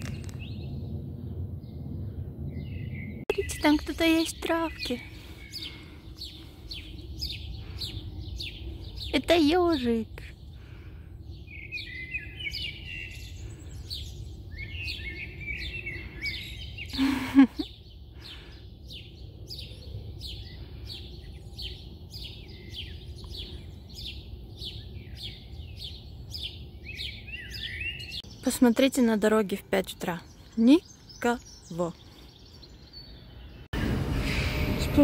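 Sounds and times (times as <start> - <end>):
low background rumble: 0.0 - 28.6
songbirds singing: 0.0 - 35.0.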